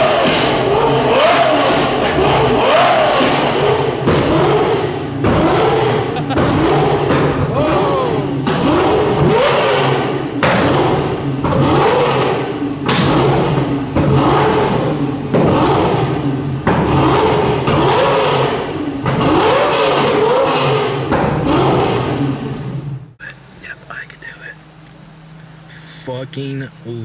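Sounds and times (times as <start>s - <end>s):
exhaust bangs: 0.0s - 23.2s
sports car engine revving: 0.0s - 27.0s.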